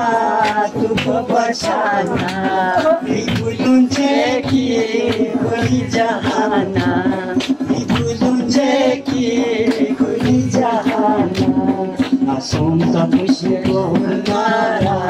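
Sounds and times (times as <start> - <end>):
man singing: 0.0 - 15.0.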